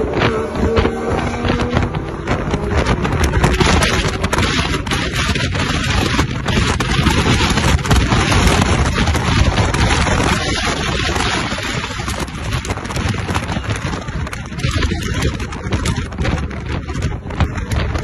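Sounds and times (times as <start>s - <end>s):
road and traffic noise: 0.0s - 18.0s
wind buffeting microphone: 0.0s - 18.0s.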